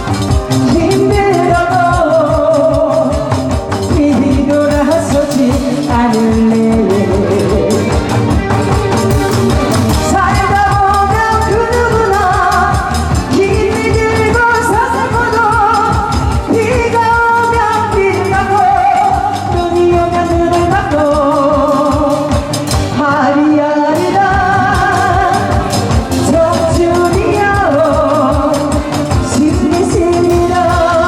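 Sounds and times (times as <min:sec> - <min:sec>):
backing track with steady beat: 0:00.0 - 0:31.0
person singing with vibrato: 0:00.0 - 0:31.0.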